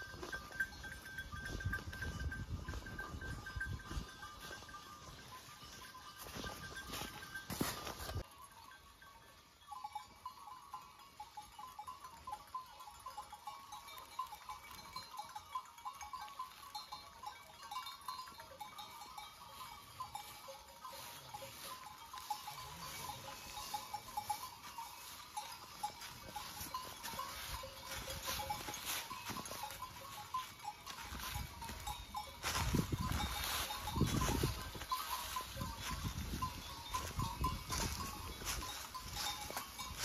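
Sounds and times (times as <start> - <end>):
goat bells clinking: 0.0 - 40.0
hooves rustling dry leaves: 0.0 - 40.0.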